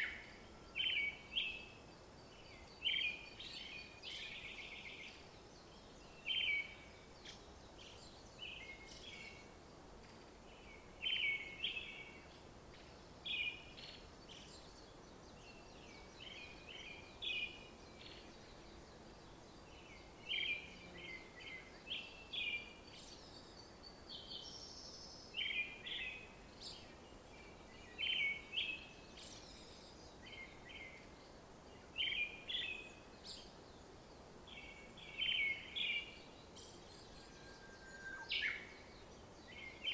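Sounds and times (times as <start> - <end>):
faint background hiss: 0.0 - 39.9
small birds chirping: 0.0 - 39.9.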